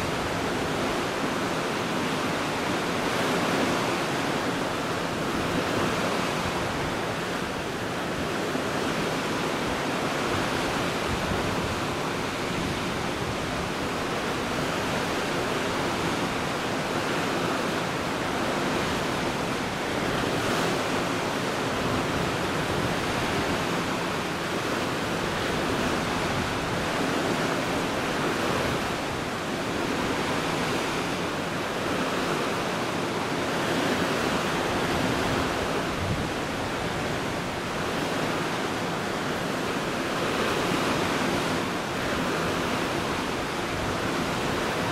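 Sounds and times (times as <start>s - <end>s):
sea water rushing: 0.0s - 44.9s.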